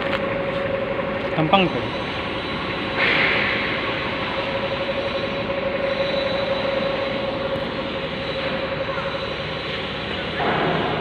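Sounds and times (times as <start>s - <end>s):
heavy machinery running: 0.0s - 11.0s
mid-pitched whine: 0.0s - 11.0s.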